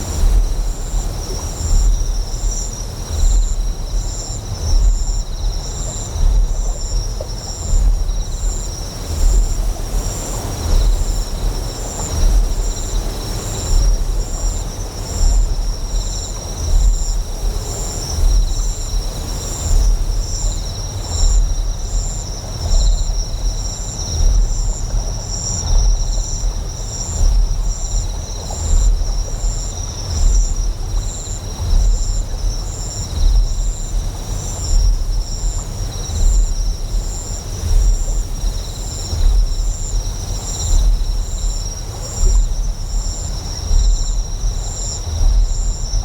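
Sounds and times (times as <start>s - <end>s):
insect chirping: 0.0s - 46.0s.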